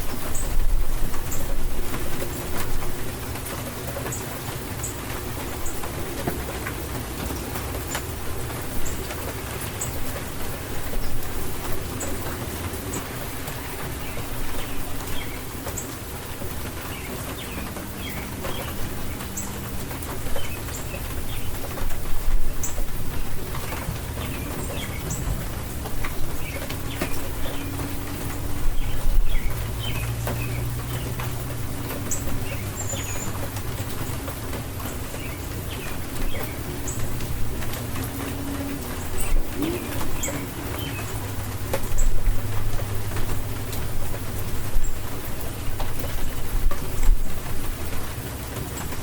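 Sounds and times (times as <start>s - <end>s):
birds chirping: 0.0s - 49.0s
rain falling: 0.0s - 49.0s.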